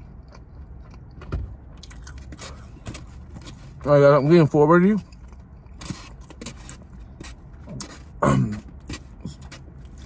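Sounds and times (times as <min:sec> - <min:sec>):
chewing and wet mouth sounds: 0:00.0 - 0:03.8, 0:04.9 - 0:10.0.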